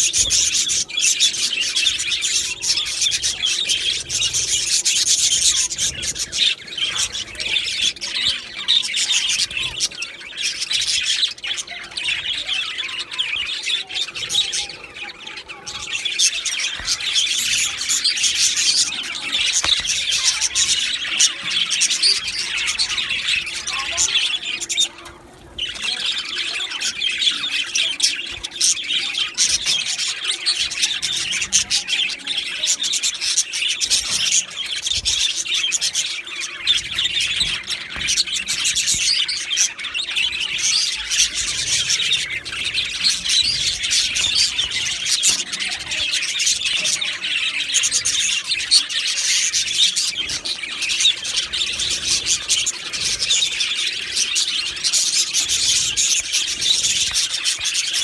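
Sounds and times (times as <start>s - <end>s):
budgerigars chattering and chirping: 0.0s - 58.0s.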